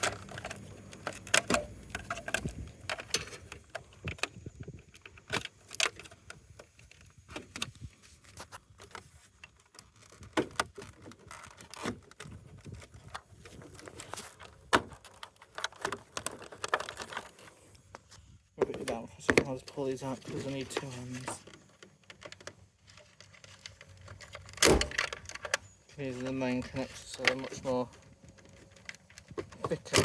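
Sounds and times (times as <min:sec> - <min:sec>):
parts clicking and clattering: 0:00.0 - 0:30.0.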